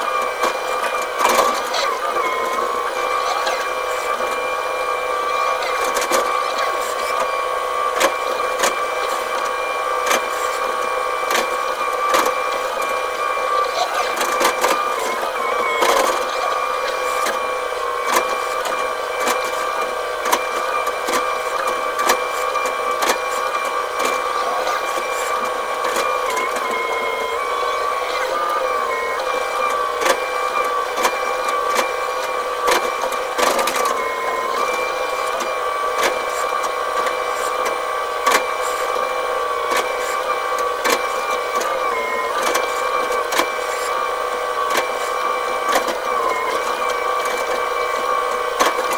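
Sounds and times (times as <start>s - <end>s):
excavator engine and hydraulic whine: 0.0s - 48.9s.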